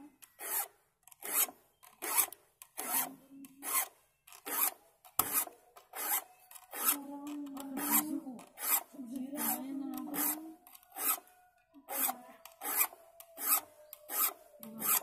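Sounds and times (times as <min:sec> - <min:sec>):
hand file rasping on saw teeth: 0:00.3 - 0:07.1, 0:07.8 - 0:11.3, 0:11.9 - 0:15.0.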